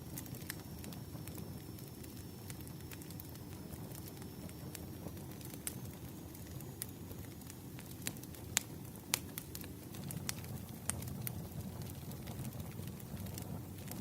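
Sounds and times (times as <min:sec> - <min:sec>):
rumble of flames: 0:00.0 - 0:14.0
wood crackling and popping: 0:00.0 - 0:14.0.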